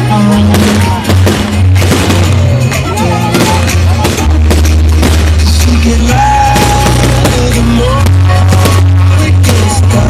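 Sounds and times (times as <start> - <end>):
fireworks bursting: 0.0 - 10.0
loud music with deep bass: 0.0 - 10.0.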